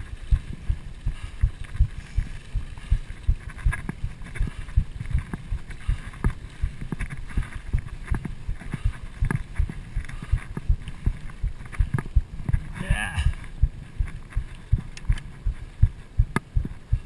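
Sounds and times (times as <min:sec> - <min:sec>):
mountain bike rattling over dirt: 0:00.0 - 0:16.1.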